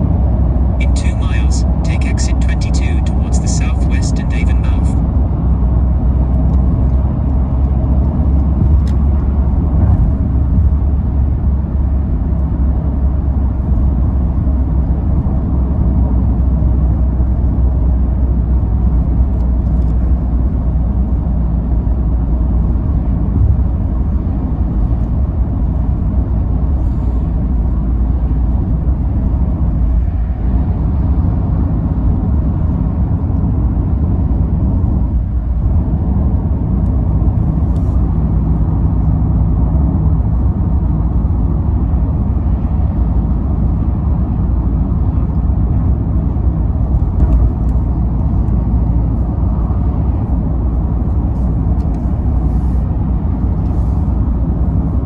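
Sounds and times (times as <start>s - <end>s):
car road rumble inside cabin: 0.0s - 55.0s.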